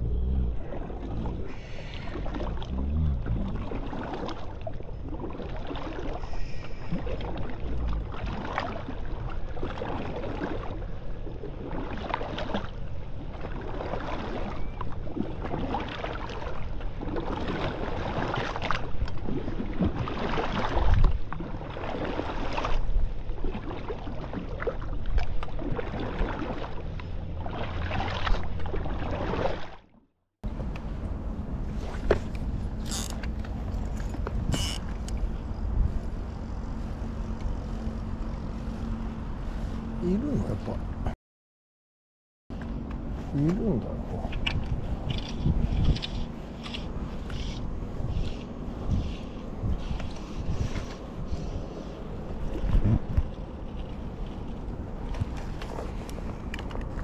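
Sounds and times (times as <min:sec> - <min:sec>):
wind rumble on microphone: 0:00.0 - 0:29.6, 0:30.4 - 0:41.2, 0:42.5 - 0:57.0.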